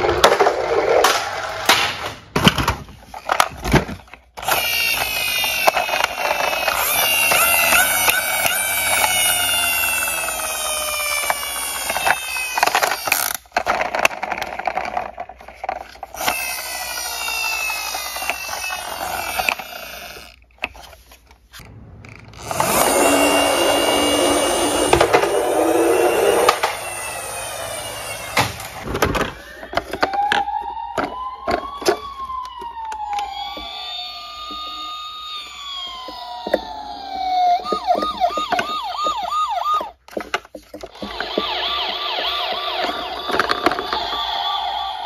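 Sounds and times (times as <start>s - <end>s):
plastic toy cars clacking: 0.0s - 45.0s
electronic toy sirens wailing: 3.1s - 20.4s, 22.1s - 45.0s.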